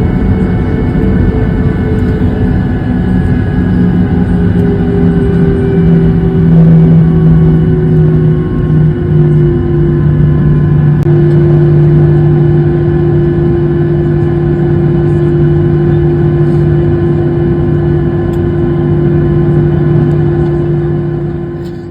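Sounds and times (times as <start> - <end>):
airliner engines droning: 0.0 - 21.9.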